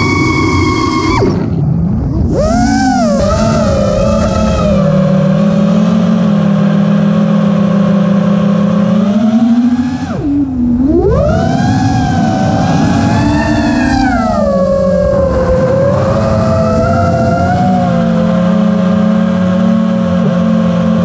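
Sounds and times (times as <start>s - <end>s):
quadcopter motors whining: 2.2s - 20.6s.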